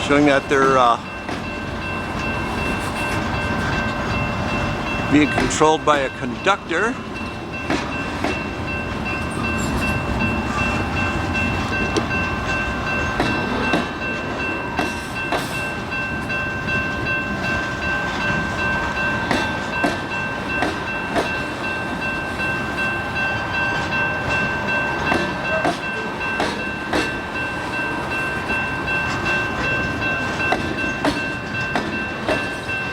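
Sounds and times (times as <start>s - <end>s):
rumble of rolling train: 0.0s - 32.9s.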